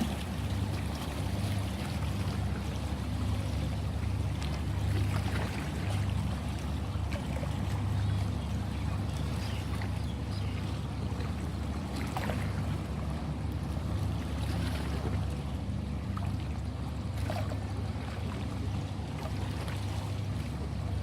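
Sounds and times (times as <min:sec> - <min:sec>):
ocean surf rumble: 0:00.0 - 0:21.0
water splashes: 0:00.0 - 0:21.0.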